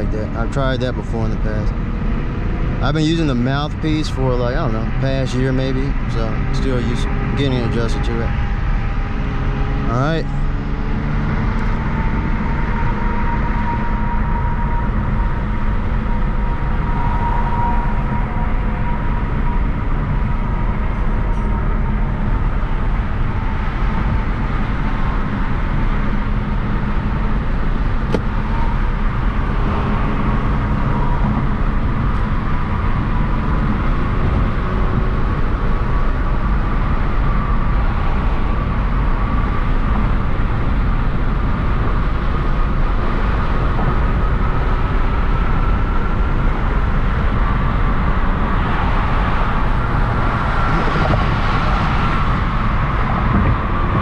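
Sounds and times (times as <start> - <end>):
car engine and road noise: 0.0 - 54.0
faint whine: 0.0 - 54.0.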